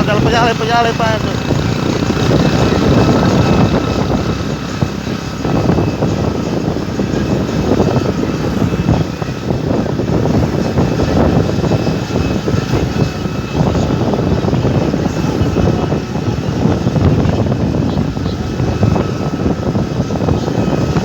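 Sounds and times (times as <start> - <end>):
combine harvester rumble: 0.0 - 21.0.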